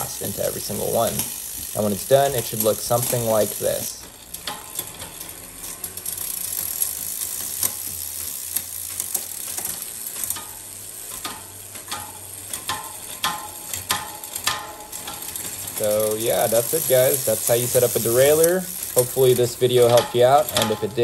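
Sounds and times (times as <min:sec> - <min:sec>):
bicycle chain whirring: 0:00.0 - 0:21.0
derailleur clicks: 0:00.0 - 0:21.0.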